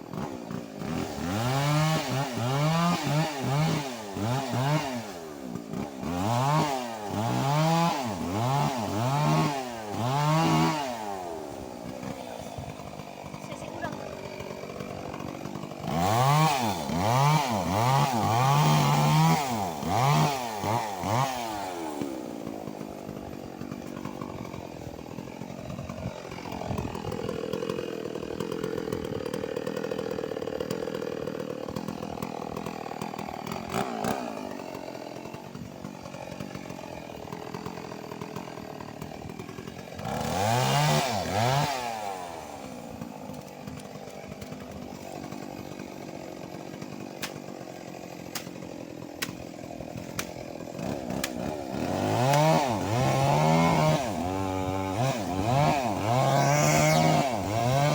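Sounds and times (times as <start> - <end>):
chainsaw revving: 0.0 - 57.9.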